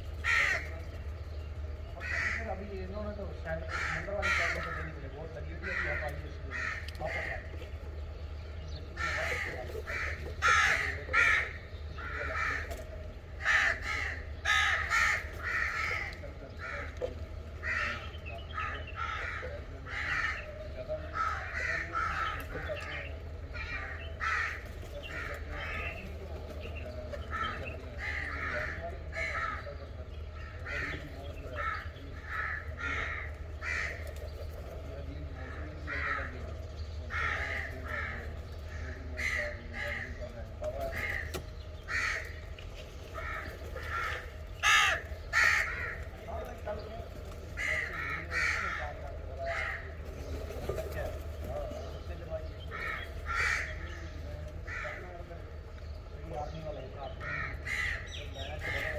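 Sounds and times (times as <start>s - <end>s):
crows cawing: 0.0s - 58.9s
steady low hum: 0.0s - 58.9s.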